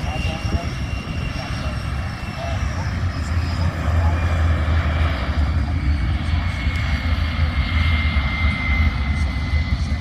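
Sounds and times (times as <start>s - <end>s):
airplane engine running: 0.0s - 10.0s.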